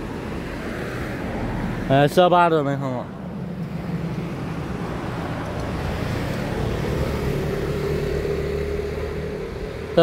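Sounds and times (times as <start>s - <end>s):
vehicle rumble: 0.0s - 10.0s.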